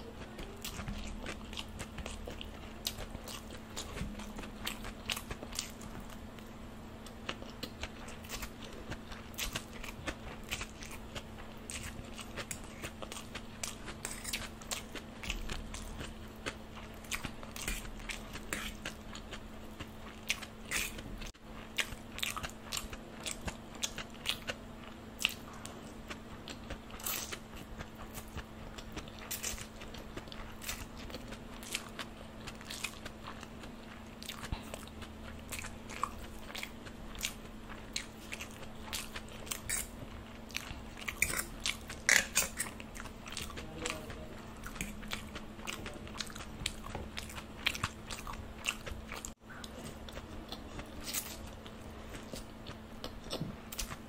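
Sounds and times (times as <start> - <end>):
faint steady hum: 0.0 - 54.0
chewing noodles with mouth clicks: 0.1 - 54.0.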